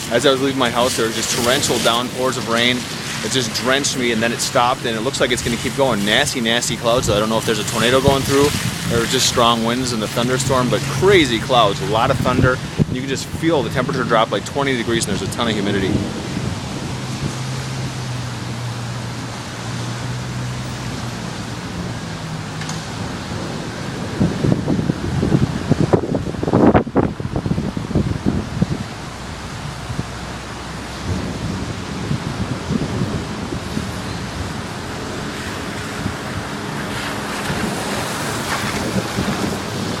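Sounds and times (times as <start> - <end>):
strong wind rushing: 0.0 - 40.0.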